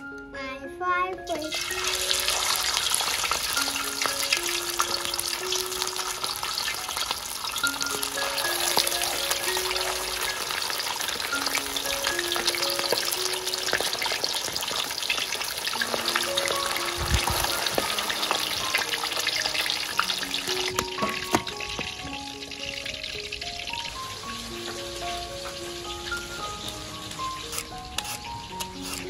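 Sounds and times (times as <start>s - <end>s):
faint soft melody: 0.0s - 29.0s
fish sizzling in hot oil: 1.4s - 29.0s.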